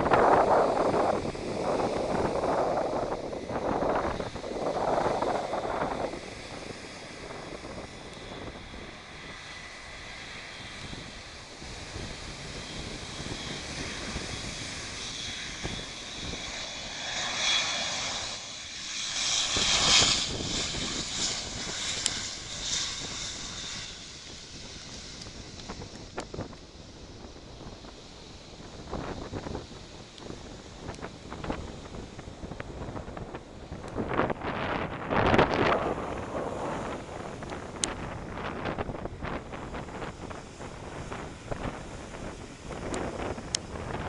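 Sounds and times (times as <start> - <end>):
turboprop engines whining: 0.0 - 44.0
wind buffeting microphone: 0.0 - 44.0.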